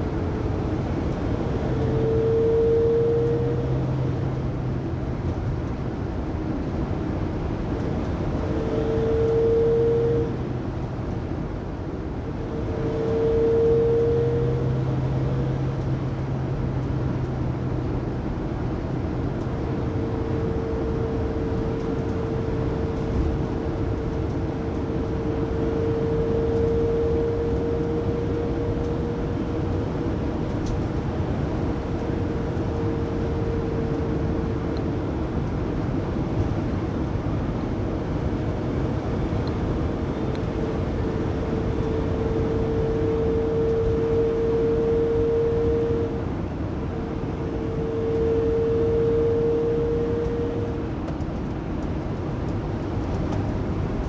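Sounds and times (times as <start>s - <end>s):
drivetrain whine: 0.0s - 54.0s
road noise: 0.0s - 54.0s.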